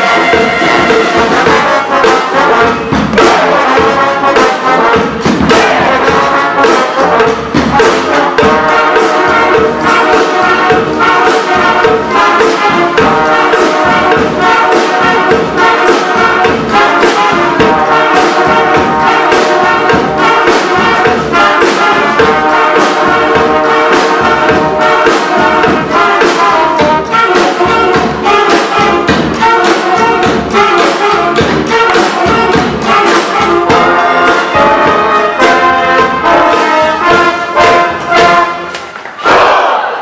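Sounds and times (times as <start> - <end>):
steady drum beat: 0.0 - 39.8
brass street band playing: 0.0 - 40.0
trumpets and trombones: 0.0 - 40.0.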